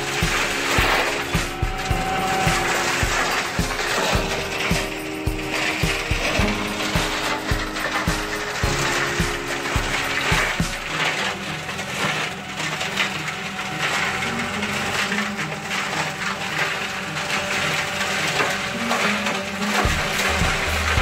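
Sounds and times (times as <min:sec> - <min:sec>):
tractor engine: 0:00.0 - 0:21.0
wood crackling and splintering: 0:00.0 - 0:21.0.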